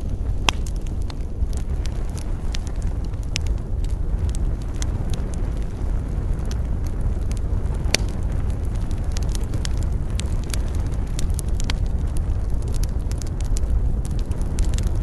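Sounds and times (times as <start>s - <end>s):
campfire crackling and popping: 0.0s - 15.0s
deep rumble: 0.0s - 15.0s.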